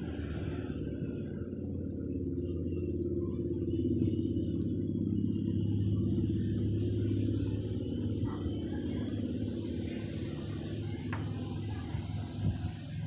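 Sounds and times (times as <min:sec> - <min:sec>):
low machine rumble with hum: 0:00.0 - 0:13.0.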